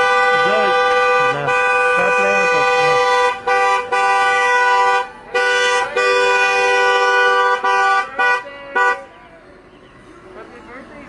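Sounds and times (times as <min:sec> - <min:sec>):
car horns honking: 0:00.0 - 0:09.5.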